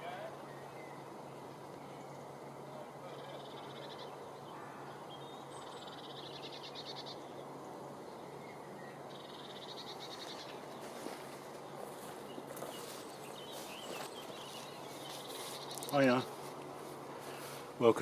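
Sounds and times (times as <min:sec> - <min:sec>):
outdoor meadow ambience: 0:00.0 - 0:18.0.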